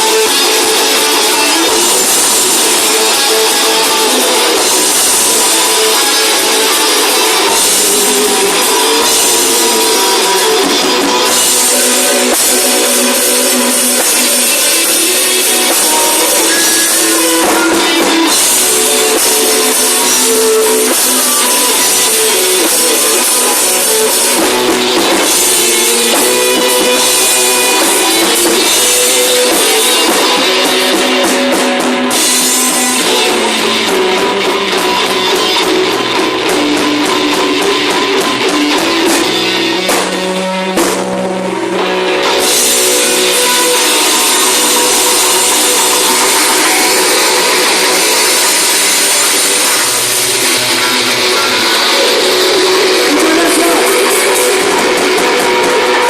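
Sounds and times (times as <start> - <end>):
drum kit with cymbals: 0.0 - 56.0
electric guitars: 0.0 - 56.0.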